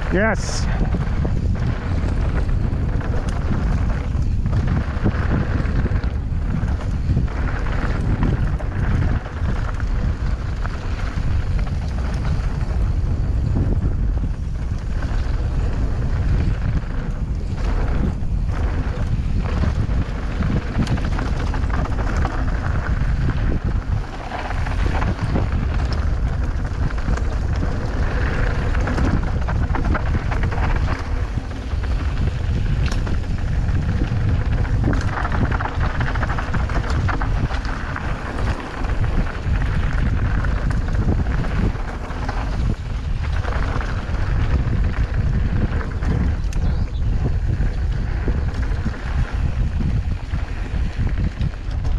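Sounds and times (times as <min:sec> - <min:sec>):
bike rattling: 0:00.0 - 0:51.9
tyres rolling over dirt and stones: 0:00.0 - 0:51.9
wind rushing over microphone: 0:00.0 - 0:51.9.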